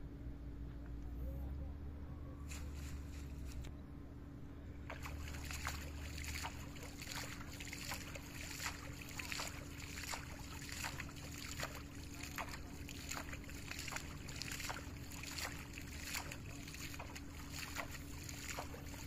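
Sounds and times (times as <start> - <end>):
pond water splashing: 2.4 - 3.7, 4.7 - 19.0.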